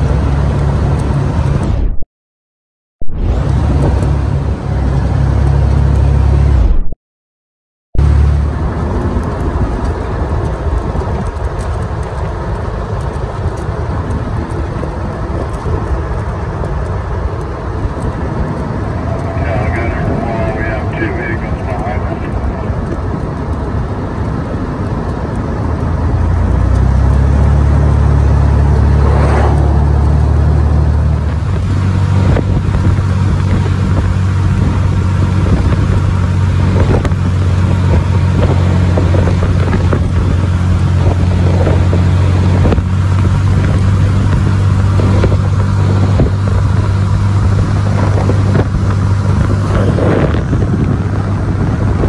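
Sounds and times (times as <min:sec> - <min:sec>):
vehicle engine running: 0:08.0 - 0:52.0.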